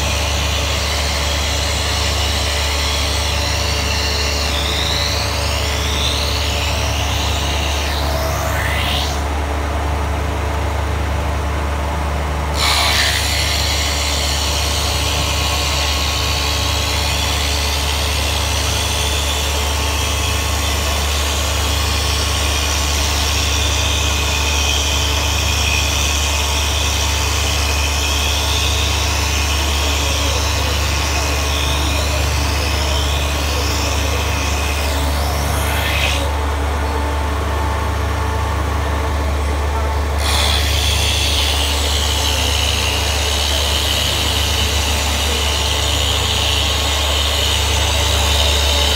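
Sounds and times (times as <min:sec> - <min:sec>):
high cutting noise of wood: 0:00.0 - 0:48.9
machine motor hum: 0:00.0 - 0:48.9.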